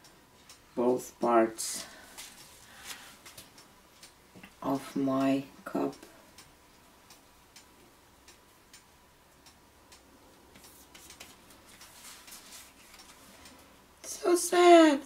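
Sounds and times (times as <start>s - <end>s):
faint irregular ticks and clicks: 0.0s - 15.0s.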